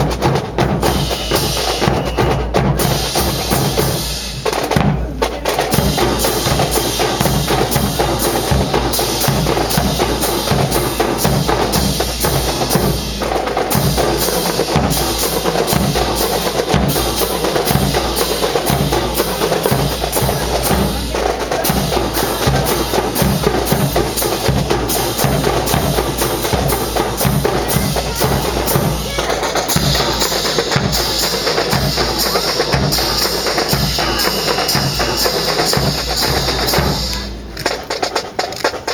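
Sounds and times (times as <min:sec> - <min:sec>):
marching snare and bass drums: 0:00.0 - 0:38.9.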